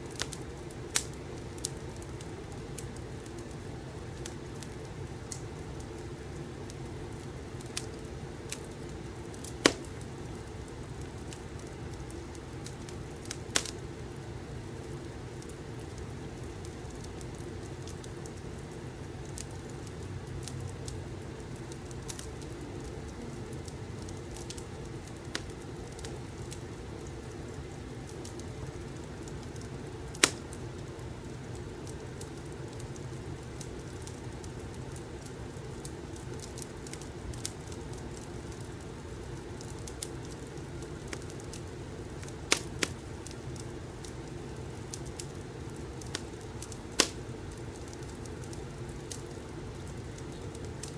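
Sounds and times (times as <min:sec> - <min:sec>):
low room rumble: 0:00.0 - 0:50.9
wood fire crackling and popping: 0:00.0 - 0:50.9.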